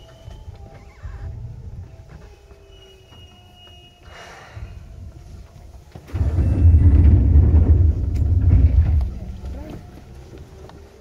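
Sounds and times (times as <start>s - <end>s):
electric train rumbling: 0.0s - 11.0s
faint steady whines: 0.0s - 11.0s.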